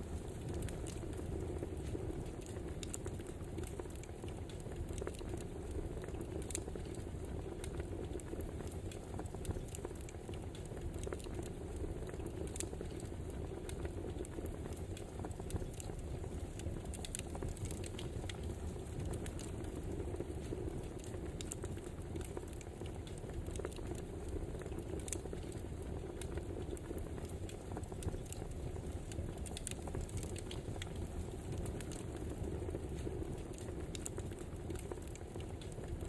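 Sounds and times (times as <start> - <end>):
logs crackling and popping: 0.0 - 36.0.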